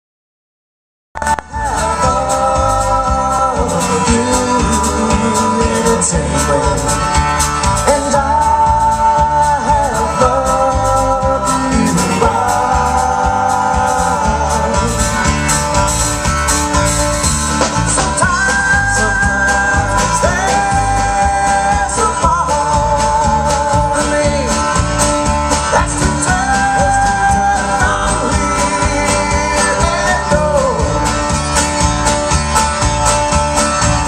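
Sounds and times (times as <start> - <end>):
bending lead guitar notes: 1.2 - 34.0
live band playing amplified music: 1.2 - 34.0.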